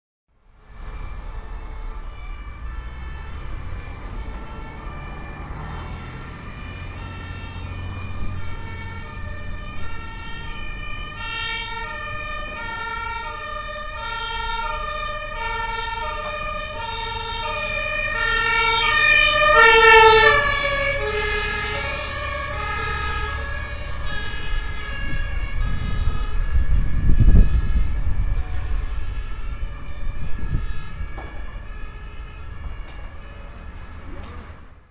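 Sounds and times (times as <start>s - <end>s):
traffic rumble: 0.3s - 34.9s
two-tone police siren: 0.4s - 34.9s.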